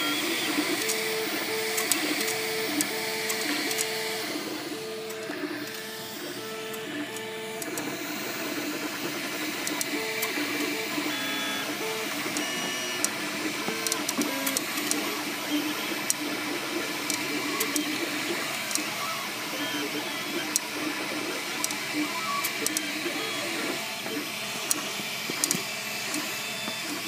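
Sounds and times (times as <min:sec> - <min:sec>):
printer stepper motors whining: 0:00.0 - 0:27.0
sharp clicks and squeaks: 0:00.1 - 0:27.0.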